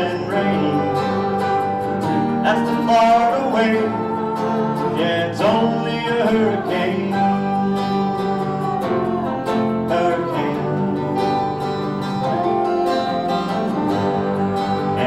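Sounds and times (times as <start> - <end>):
country guitars playing: 0.0 - 15.0.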